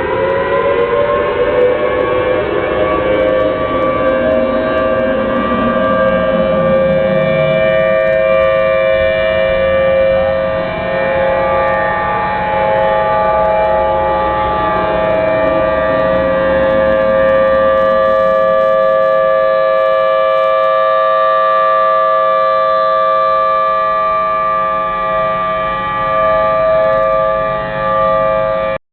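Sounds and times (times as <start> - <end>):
civil defense sirens steady tone: 0.0 - 28.8.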